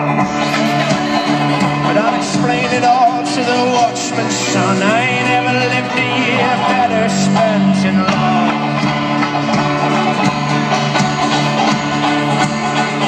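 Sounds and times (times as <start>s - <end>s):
live folk-rock band: 0.0s - 13.0s.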